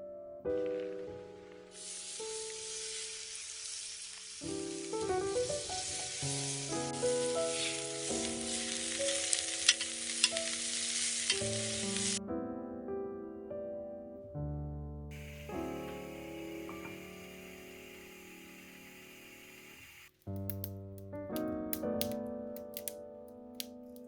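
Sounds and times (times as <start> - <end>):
soft piano music: 0.0 - 3.5, 4.4 - 24.0
wood fire crackling: 1.7 - 12.2, 15.1 - 24.0.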